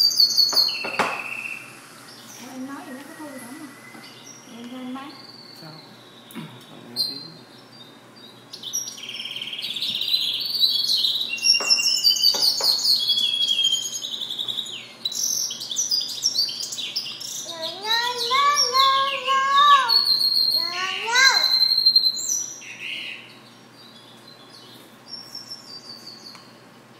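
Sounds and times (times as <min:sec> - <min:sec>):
bird twittering song: 0:00.0 - 0:26.9.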